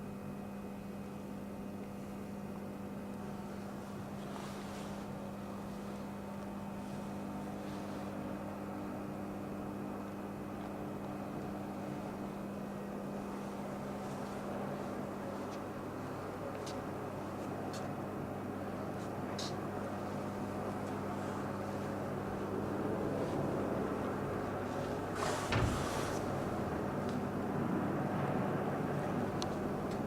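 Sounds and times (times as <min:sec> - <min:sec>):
industrial machine humming: 0:03.2 - 0:30.0.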